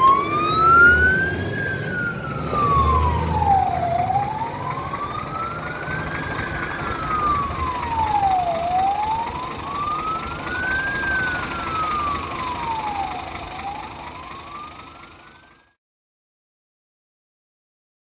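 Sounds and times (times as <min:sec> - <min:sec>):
diesel engine rumbling: 0:00.0 - 0:15.8
fire engine siren wailing: 0:00.0 - 0:15.8.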